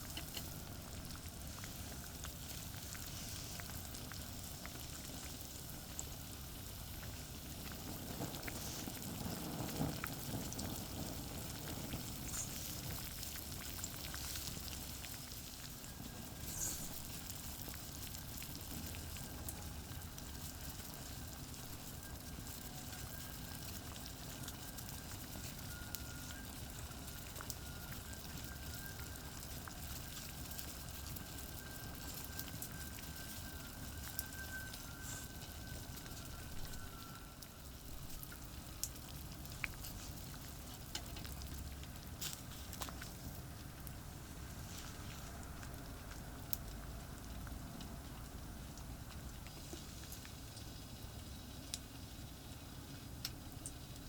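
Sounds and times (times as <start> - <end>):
campfire crackling and popping: 0.0 - 54.0
food sizzling: 0.0 - 54.0.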